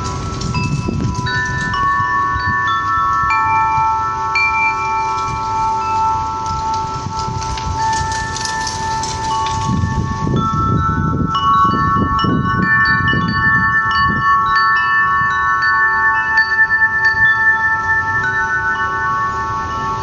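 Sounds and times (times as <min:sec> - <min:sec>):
chimes ringing: 0:00.0 - 0:20.0.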